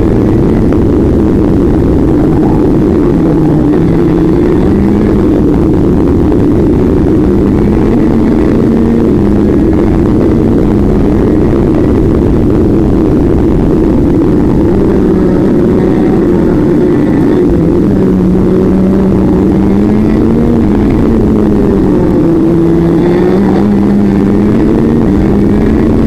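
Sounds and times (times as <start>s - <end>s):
kart engine running hard: 0.0s - 26.0s.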